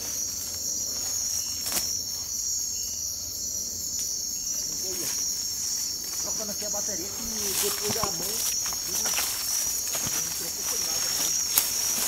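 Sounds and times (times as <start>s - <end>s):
night insects shrilling: 0.0s - 12.0s.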